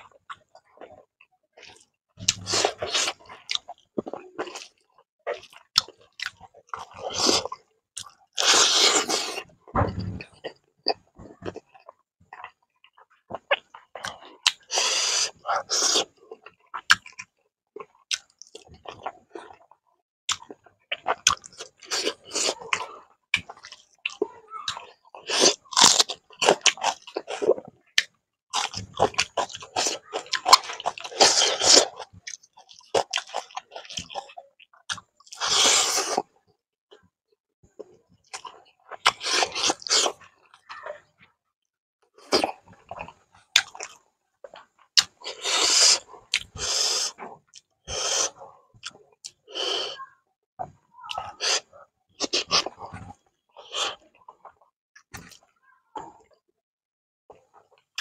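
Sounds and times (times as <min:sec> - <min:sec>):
man chewing food: 0:00.0 - 0:37.1, 0:37.7 - 0:41.3, 0:42.1 - 0:50.0, 0:50.6 - 0:56.4.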